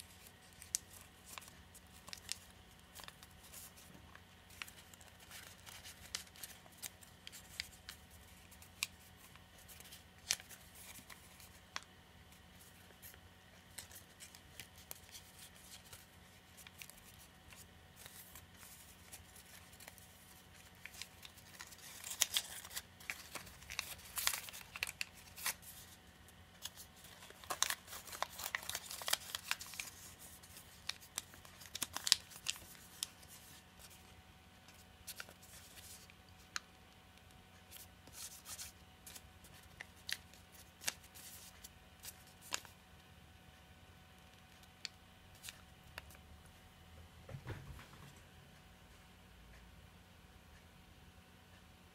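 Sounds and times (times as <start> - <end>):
paper crinkling as folded: 0.0 - 42.8, 44.2 - 46.2.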